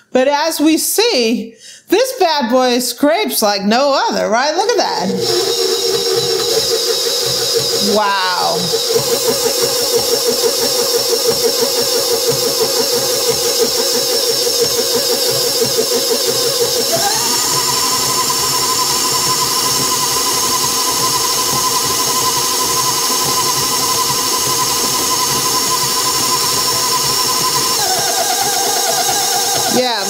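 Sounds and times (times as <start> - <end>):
stand mixer motor whine: 4.6 - 30.0.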